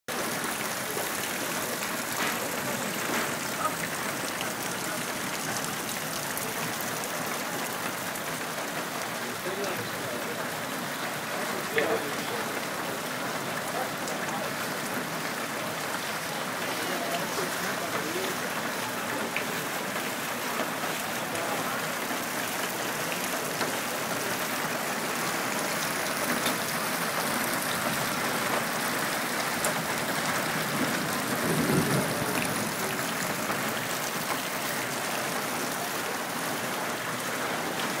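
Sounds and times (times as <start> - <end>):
heavy rain on standing water: 0.0 - 38.0.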